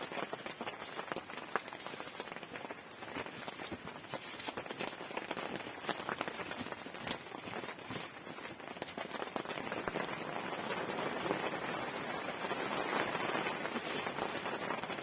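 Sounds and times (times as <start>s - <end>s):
rain drops striking a surface: 0.0s - 15.0s.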